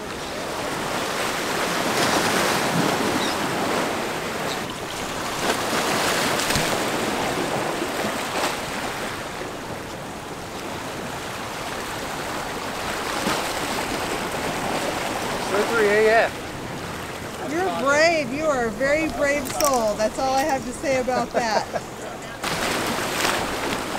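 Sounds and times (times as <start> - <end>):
surf splashing against rocks: 0.0 - 23.9.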